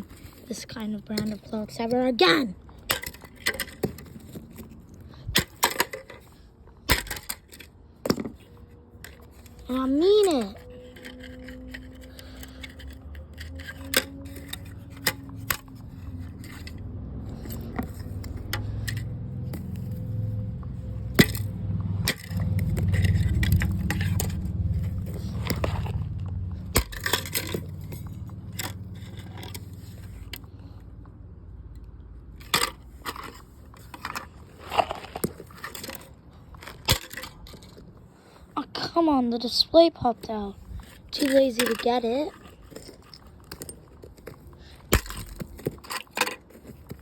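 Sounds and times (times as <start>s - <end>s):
plastic parts cracking and scraping: 0.0s - 30.6s, 32.3s - 38.9s, 40.1s - 47.0s.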